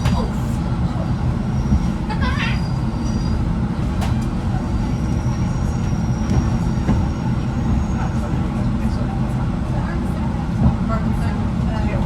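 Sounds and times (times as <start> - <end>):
train engine rumble: 0.0 - 12.0.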